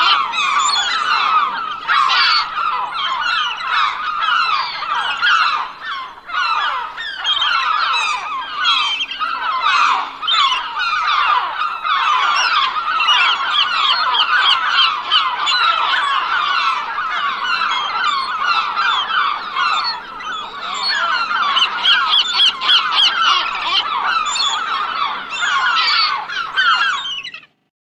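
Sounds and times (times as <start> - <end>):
flock of gulls calling: 0.0 - 27.6.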